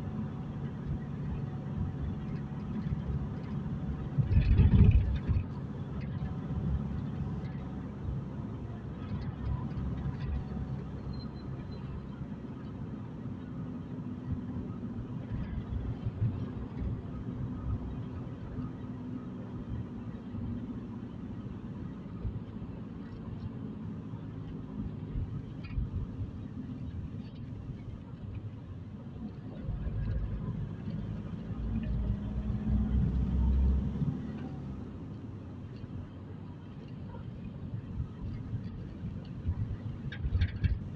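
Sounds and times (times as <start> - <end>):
car engine rumble: 0.0 - 40.9
road noise: 0.0 - 40.9.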